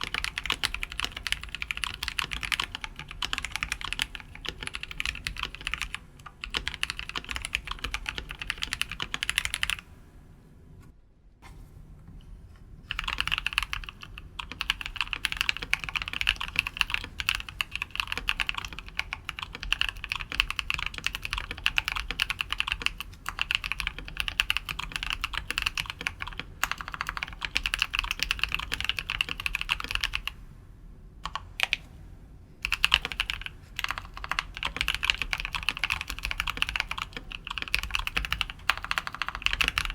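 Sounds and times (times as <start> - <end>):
typing on mechanical keyboard: 0.0 - 9.8, 12.9 - 30.4, 31.2 - 31.8, 32.6 - 39.9.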